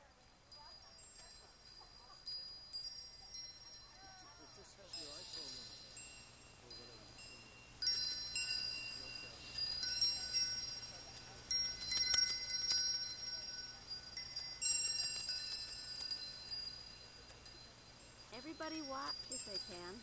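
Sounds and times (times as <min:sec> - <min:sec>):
high metal chimes ringing: 0:00.0 - 0:20.0.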